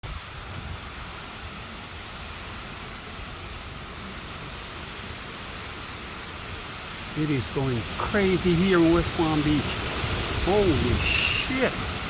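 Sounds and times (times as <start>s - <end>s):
strong storm wind rushing: 0.0s - 12.0s
wind buffeting microphone: 0.0s - 12.0s.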